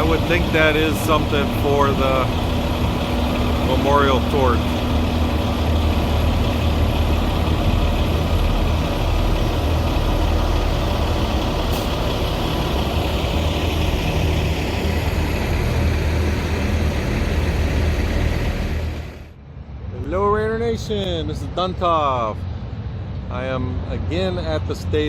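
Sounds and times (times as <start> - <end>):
diesel truck engines running: 0.0 - 25.0.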